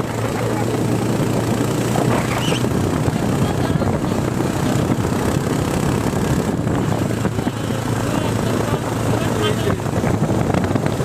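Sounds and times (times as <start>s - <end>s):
motorcycle engine hum: 0.0s - 11.0s
wind noise on microphone: 0.0s - 11.0s.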